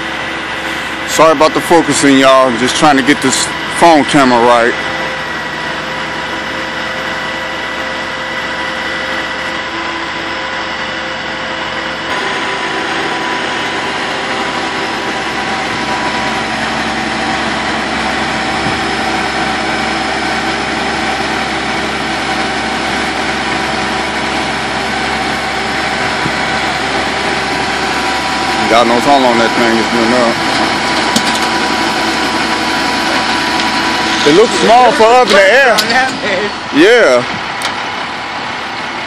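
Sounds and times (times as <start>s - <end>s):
hydraulic whining: 0.0s - 39.0s
truck engine running: 0.0s - 39.0s.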